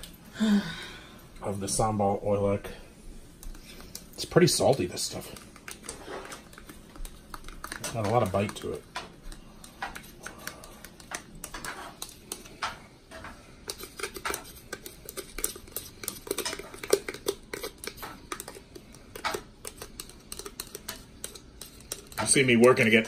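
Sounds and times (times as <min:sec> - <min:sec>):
spoon scraping plastic cup: 0:03.4 - 0:12.6, 0:13.6 - 0:23.0.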